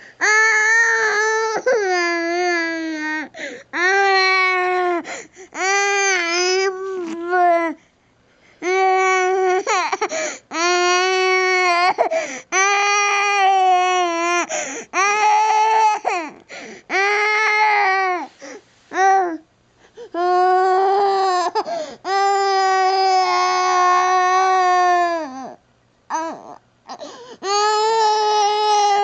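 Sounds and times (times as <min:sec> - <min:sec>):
baby crying: 0:00.2 - 0:07.8, 0:08.6 - 0:18.3, 0:20.2 - 0:29.0.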